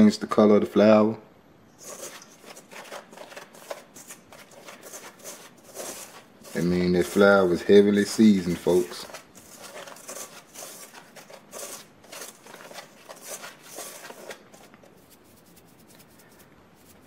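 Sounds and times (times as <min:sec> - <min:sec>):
fingers rubbing flour in bowl: 0:01.8 - 0:17.0.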